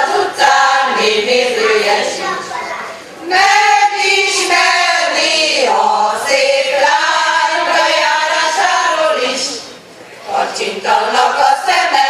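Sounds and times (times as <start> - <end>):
women's choir singing: 0.0 - 2.4, 3.2 - 12.0.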